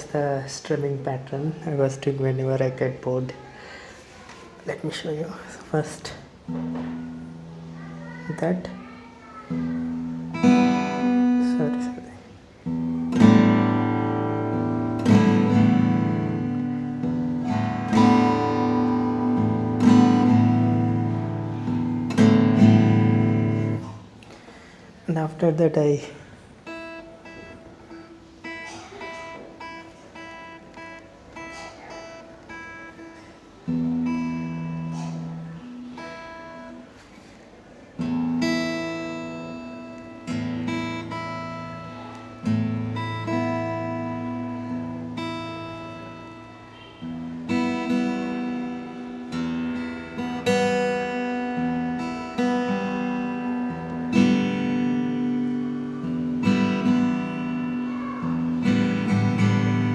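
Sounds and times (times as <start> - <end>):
acoustic guitar: 0.0 - 59.9.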